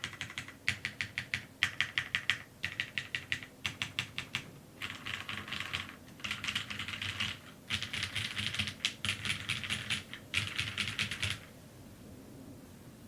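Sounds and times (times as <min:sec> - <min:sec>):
mechanical keyboard typing: 0:00.0 - 0:11.5.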